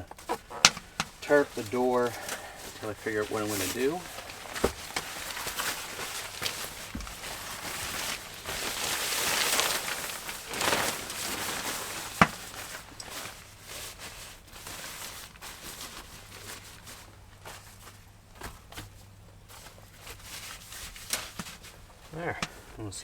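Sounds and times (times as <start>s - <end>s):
tarp rustling and crinkling: 0.0s - 23.0s.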